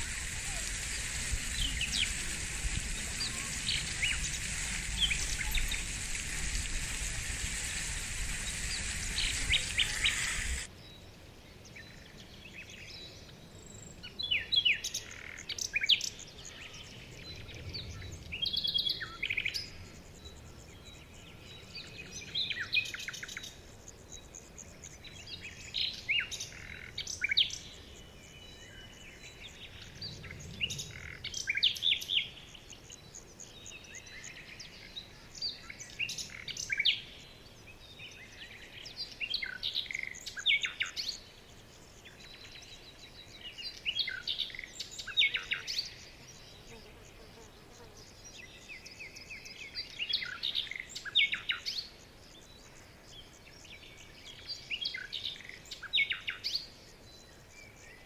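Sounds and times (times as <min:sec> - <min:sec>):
songbird chirps and trills: 0:00.0 - 0:58.0.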